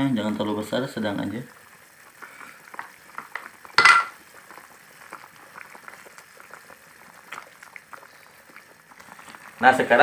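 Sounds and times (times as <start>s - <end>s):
stew bubbling and popping: 0.0s - 10.0s.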